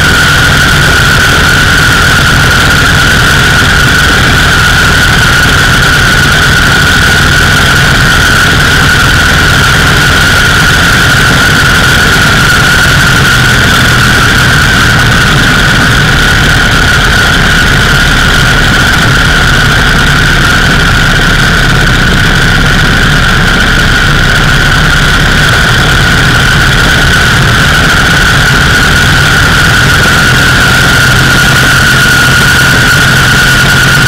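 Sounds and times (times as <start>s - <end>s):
high engine whine: 0.0s - 34.0s
motorcycle engine cruising: 0.0s - 34.0s.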